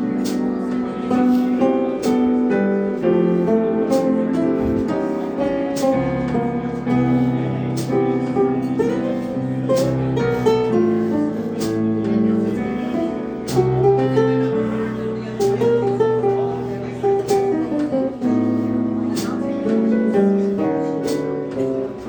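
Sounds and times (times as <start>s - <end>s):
guitar: 0.0s - 22.0s
piano: 0.0s - 22.0s.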